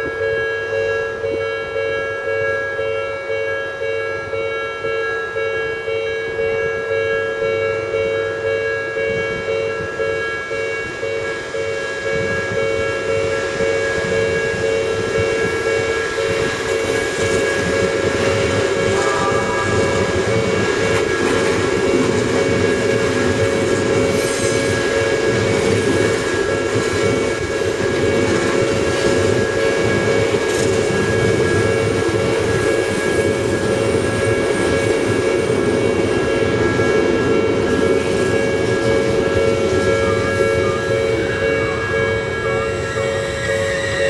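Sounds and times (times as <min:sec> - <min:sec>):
electric train equipment humming: 0:00.0 - 0:44.0
level crossing warning bell: 0:00.0 - 0:44.0.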